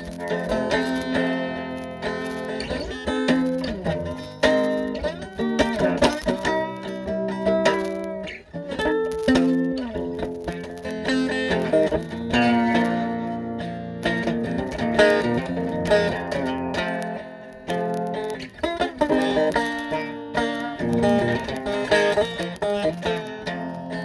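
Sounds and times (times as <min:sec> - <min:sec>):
guitar playing: 0:00.0 - 0:24.0.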